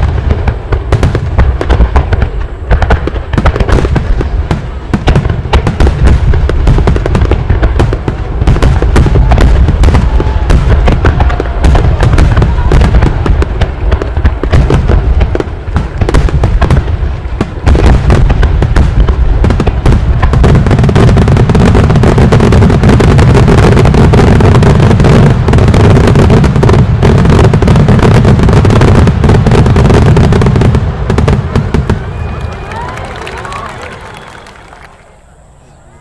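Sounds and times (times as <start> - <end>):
fireworks booming and crackling: 0.0 - 35.4.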